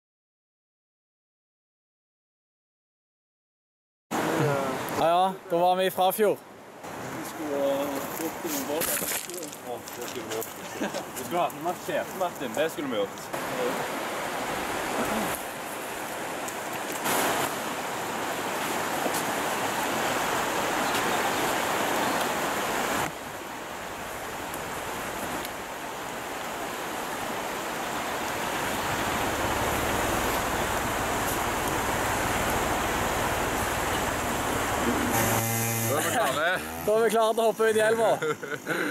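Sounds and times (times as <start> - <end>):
river rushing over rapids: 4.2 - 5.8, 6.7 - 37.9.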